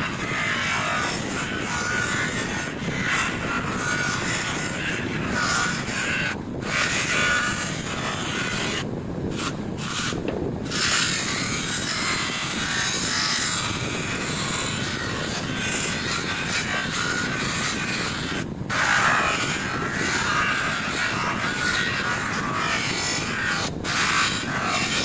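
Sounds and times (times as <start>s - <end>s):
buffing wheel rubbing metal: 0.0s - 25.0s.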